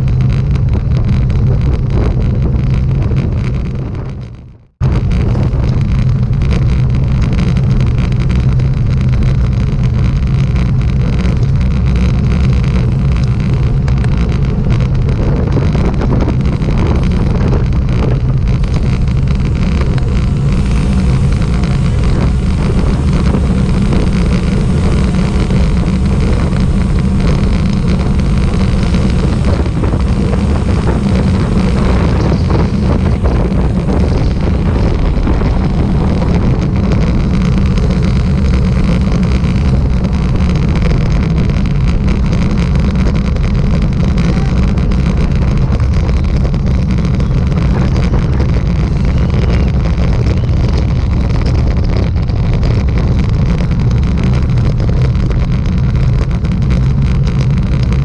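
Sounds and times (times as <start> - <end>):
vehicle engine droning: 0.0 - 58.0
wind noise on microphone: 0.0 - 58.0.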